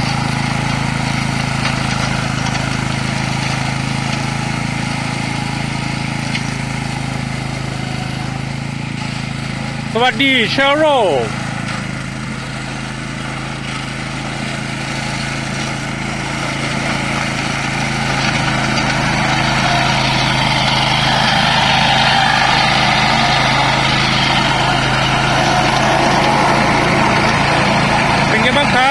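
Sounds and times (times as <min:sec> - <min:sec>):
lawn mower engine running: 0:00.0 - 0:28.9.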